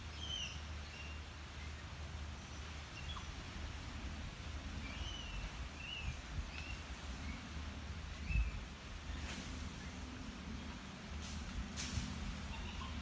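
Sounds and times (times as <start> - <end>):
steady low rumble: 1.2 - 13.0.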